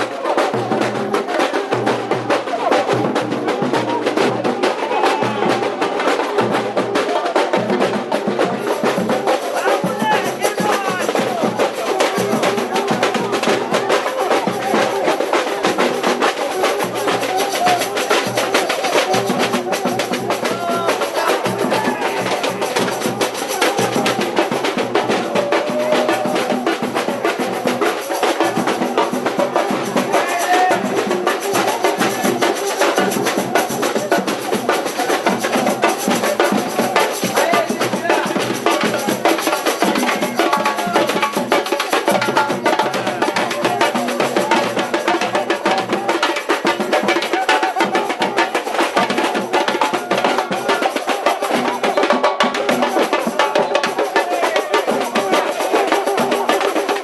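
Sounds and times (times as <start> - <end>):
samba drums playing: 0.0 - 57.0
voices: 0.0 - 57.0.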